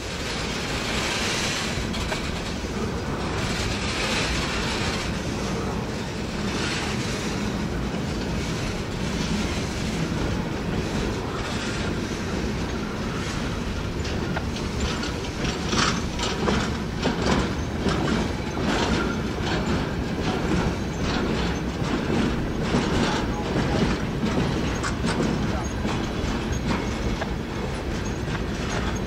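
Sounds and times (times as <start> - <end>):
freight train rumbling past: 0.0 - 29.0
wheels clattering over rails: 0.0 - 29.0.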